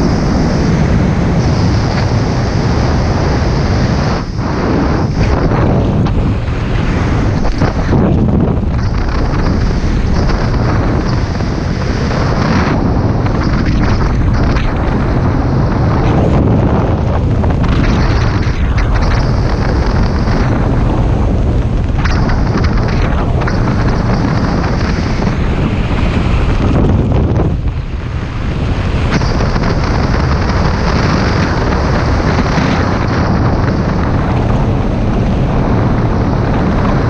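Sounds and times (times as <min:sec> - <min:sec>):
wind roaring across microphone: 0:00.0 - 0:37.0.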